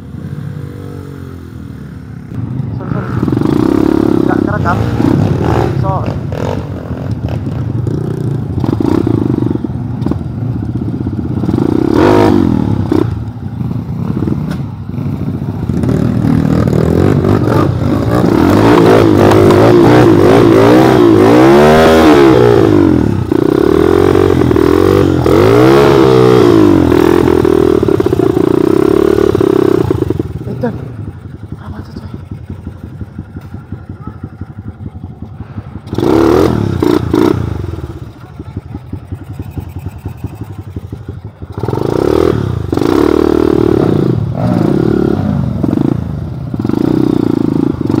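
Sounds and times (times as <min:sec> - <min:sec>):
motorcycle engine revving: 0:00.0 - 0:48.0
motorcycle rattling: 0:00.0 - 0:48.0.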